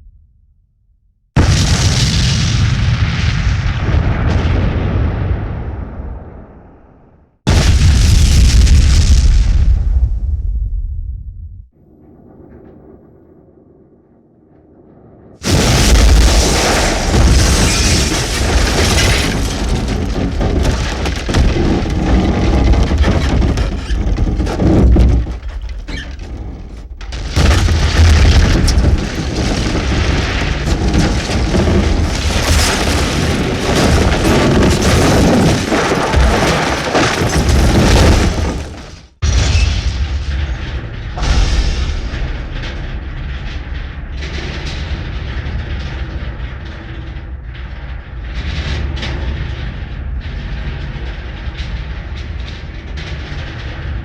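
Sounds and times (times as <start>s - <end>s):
explosion blasts with rumbling roar: 1.4s - 54.0s.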